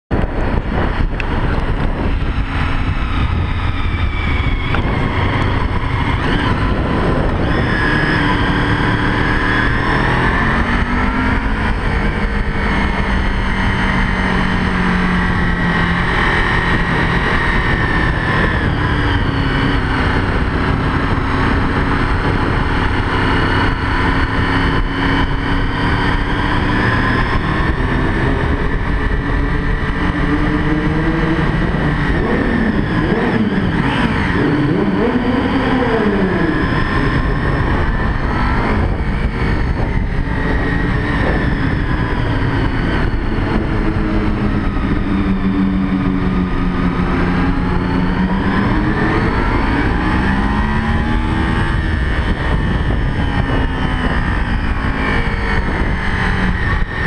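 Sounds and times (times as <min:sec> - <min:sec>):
motorcycle engine running: 0:00.1 - 0:57.0
wind rushing: 0:00.1 - 0:57.0.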